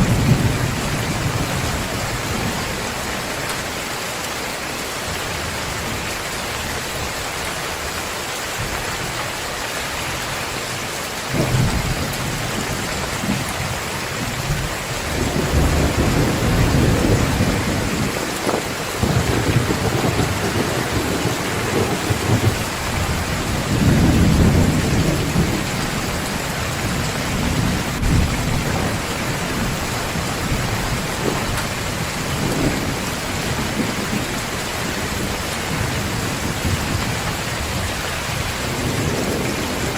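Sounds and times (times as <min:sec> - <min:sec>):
thunder clap and rumbles: 0:00.0 - 0:03.7, 0:11.2 - 0:39.9
heavy rain falling: 0:00.0 - 0:39.9.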